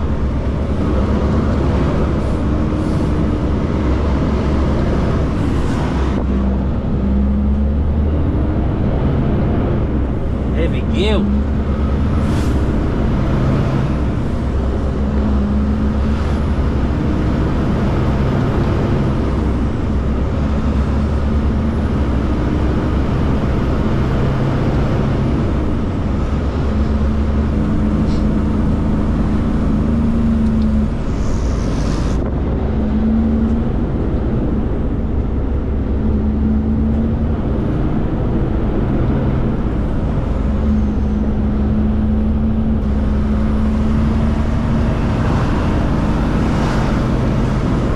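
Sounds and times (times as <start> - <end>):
diesel truck driving off: 0.0 - 47.9.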